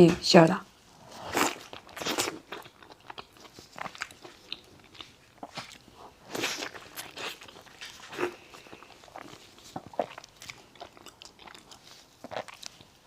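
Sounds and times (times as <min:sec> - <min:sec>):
chewing dessert: 0:00.9 - 0:13.0.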